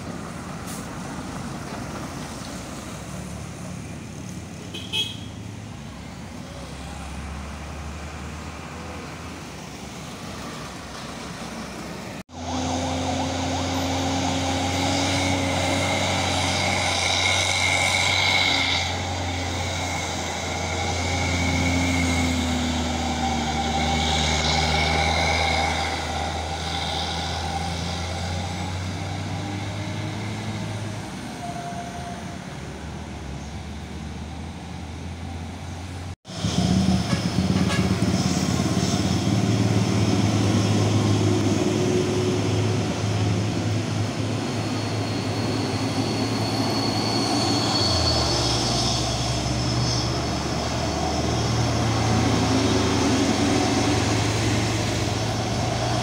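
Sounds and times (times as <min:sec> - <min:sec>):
truck engine rumble: 0:00.0 - 0:56.0.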